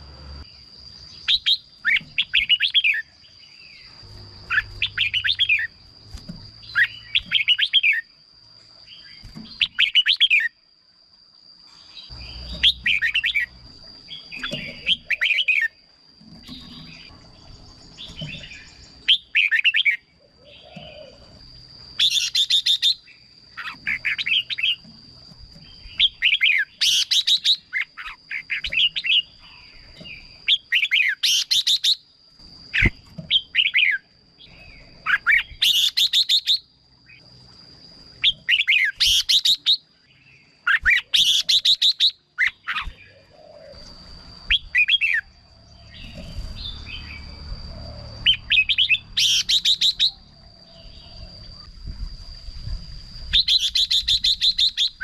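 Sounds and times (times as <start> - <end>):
bird singing warbled phrases: 1.1 - 8.1, 8.8 - 10.6, 12.0 - 15.8, 16.4 - 24.9, 25.5 - 32.1, 32.7 - 37.2, 38.2 - 51.7, 53.3 - 55.0.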